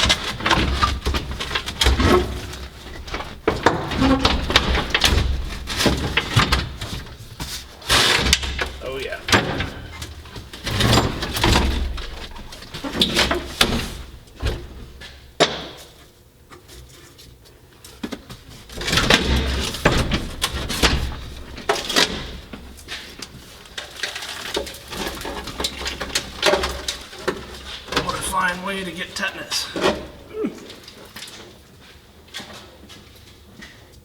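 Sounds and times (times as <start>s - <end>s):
knocks and clatter of parts: 0.0s - 17.1s, 17.9s - 28.0s.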